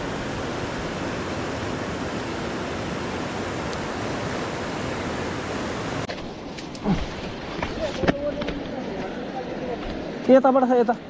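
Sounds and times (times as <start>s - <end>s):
river water rushing: 0.0s - 10.9s.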